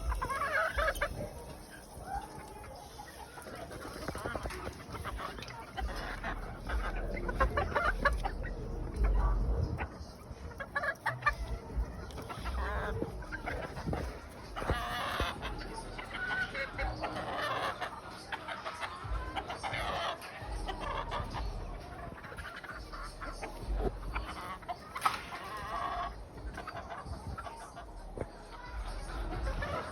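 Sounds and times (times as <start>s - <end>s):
game birds clucking and calling: 0.0s - 29.9s.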